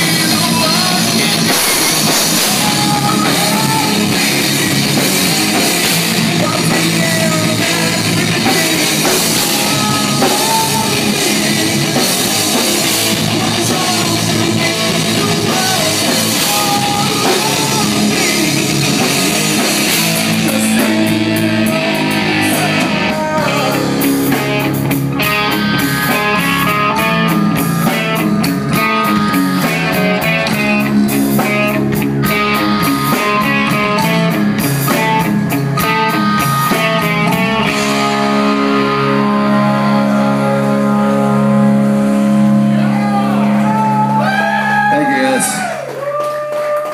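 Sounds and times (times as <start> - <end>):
person singing: 0.0 - 28.2, 32.3 - 45.7
guitar riff: 0.0 - 45.9
live rock band playing: 0.0 - 46.9.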